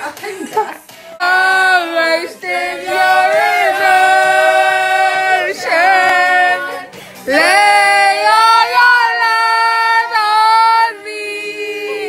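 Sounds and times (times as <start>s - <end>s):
voices singing long notes: 1.2s - 12.0s.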